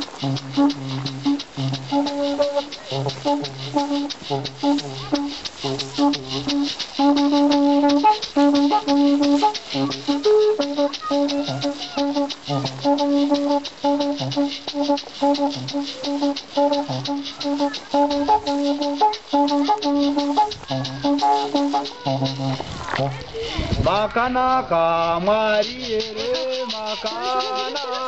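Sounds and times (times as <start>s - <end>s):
instrumental music with percussion beat: 0.0s - 23.9s, 25.0s - 28.0s.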